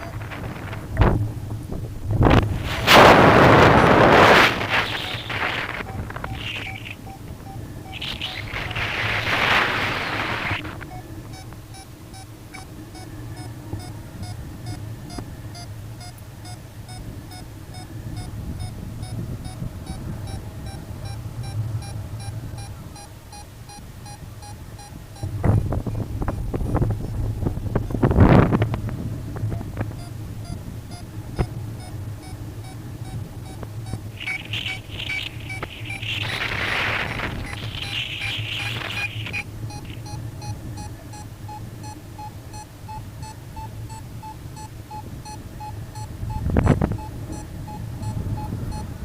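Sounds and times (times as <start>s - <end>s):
electronic warning beeping: 0.0s - 1.2s, 2.2s - 28.6s, 29.4s - 49.0s
wind rumbling on microphone: 0.0s - 49.0s.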